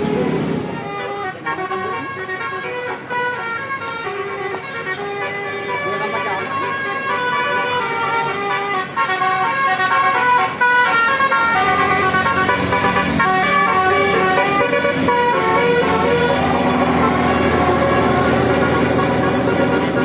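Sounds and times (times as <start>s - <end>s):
multi-tone bus horn tune: 0.0s - 20.0s.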